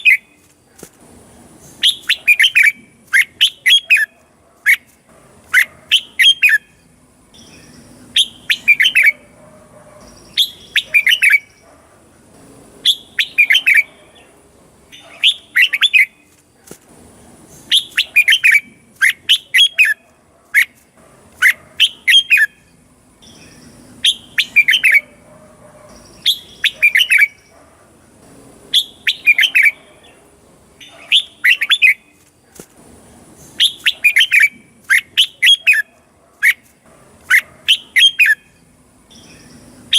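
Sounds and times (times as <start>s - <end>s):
bulbul singing: 0.0s - 0.5s, 1.6s - 11.7s, 12.8s - 16.4s, 17.4s - 20.8s, 21.4s - 27.6s, 28.7s - 32.2s, 33.4s - 39.9s.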